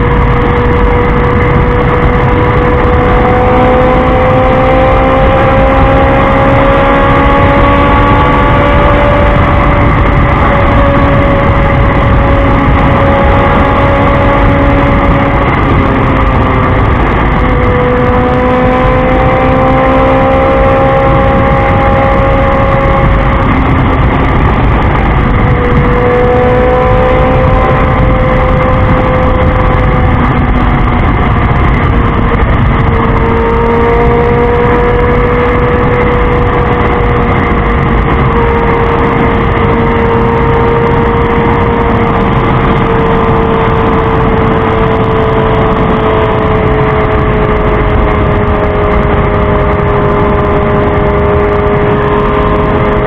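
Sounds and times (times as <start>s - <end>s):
motorcycle engine running: 0.0s - 53.0s
wind rush on microphone: 0.0s - 53.0s.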